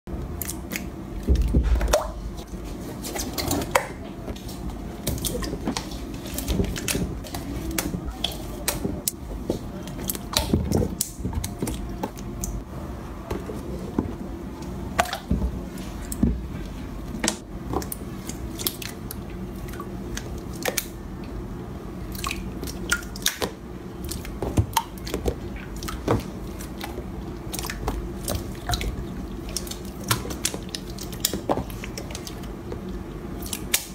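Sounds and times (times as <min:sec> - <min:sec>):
wet slime squishing: 0:00.2 - 0:33.9.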